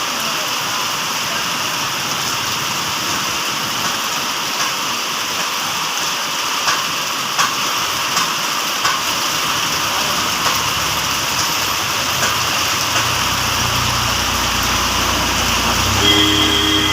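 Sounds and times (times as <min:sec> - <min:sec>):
rain falling: 0:00.0 - 0:16.9.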